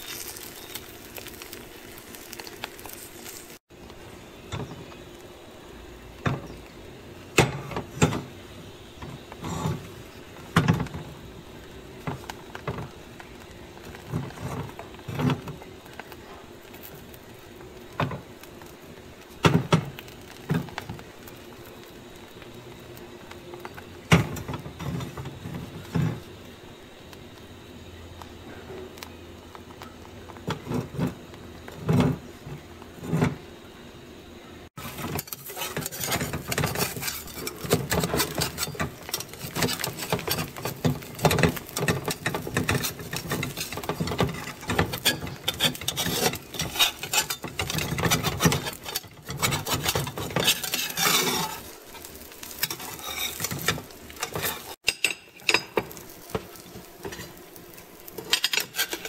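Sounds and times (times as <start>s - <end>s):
egg sizzling in oil: 0.0s - 33.4s, 34.7s - 59.0s.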